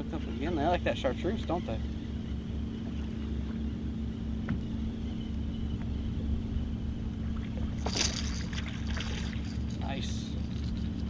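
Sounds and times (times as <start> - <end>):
low hum: 0.0 - 11.0
wind and water rumble: 0.0 - 11.0.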